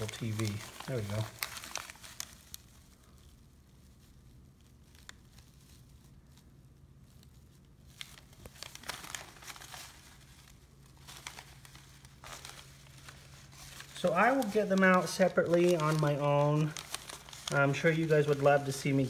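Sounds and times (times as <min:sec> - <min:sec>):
cloth bag and paper rustling: 0:00.0 - 0:19.0.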